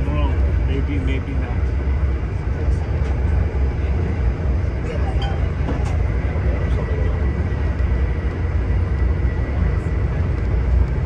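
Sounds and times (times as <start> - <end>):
train car rumbling on rails: 0.0 - 11.0.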